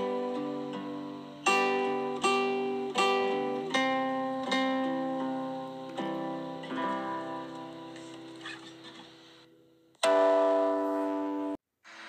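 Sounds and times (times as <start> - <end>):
plucked string chords: 0.0 - 8.4, 10.0 - 11.6.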